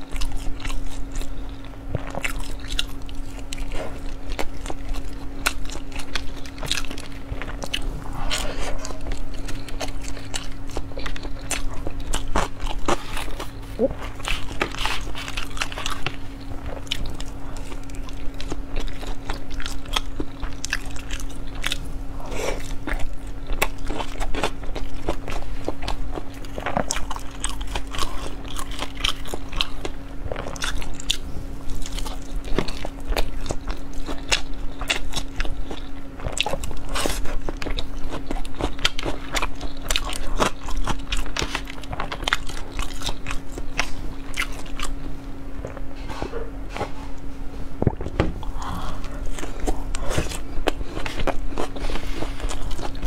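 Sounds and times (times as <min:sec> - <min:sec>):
chewing with wet mouth clicks: 0:00.0 - 0:21.9, 0:22.6 - 0:45.9, 0:48.4 - 0:53.0.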